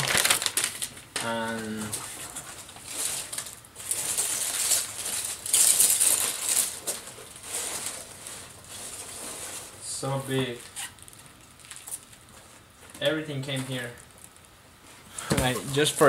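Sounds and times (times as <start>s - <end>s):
packing material rustling: 0.0s - 14.5s.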